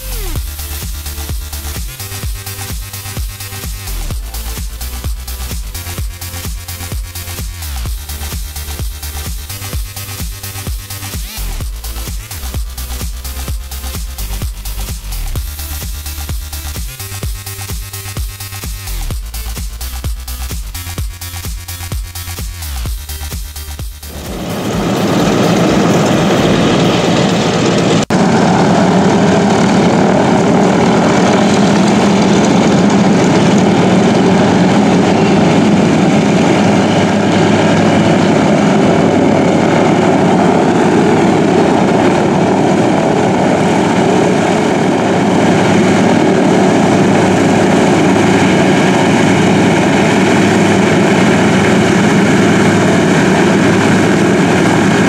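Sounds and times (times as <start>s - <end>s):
propeller engines droning: 0.0s - 21.0s, 22.8s - 55.0s.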